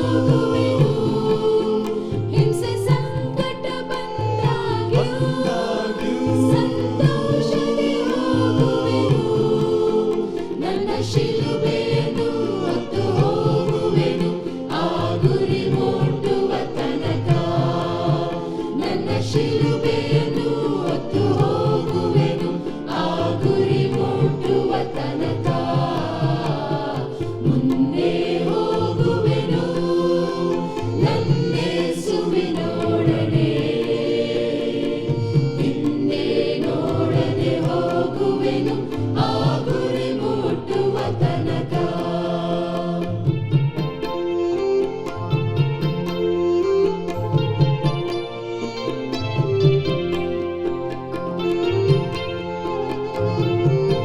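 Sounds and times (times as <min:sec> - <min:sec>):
instrumental backing with beat: 0:00.0 - 0:54.0
voices singing devotional song: 0:00.0 - 0:54.0.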